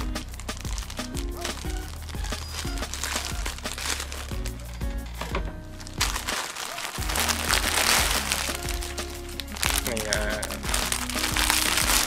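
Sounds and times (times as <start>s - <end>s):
background music: 0.0s - 12.0s
plastic pouch crinkling: 0.0s - 12.0s.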